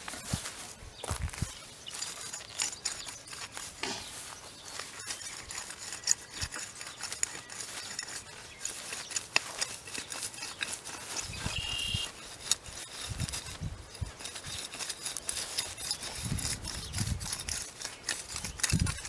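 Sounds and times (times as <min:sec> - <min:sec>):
edger blade scraping through dirt: 0:00.0 - 0:19.0.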